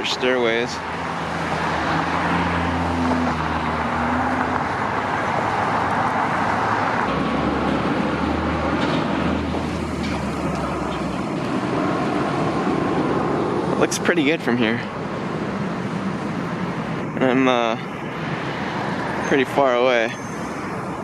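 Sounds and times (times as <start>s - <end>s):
passing vehicle hum: 0.0s - 21.0s
road traffic rushing: 0.0s - 21.0s.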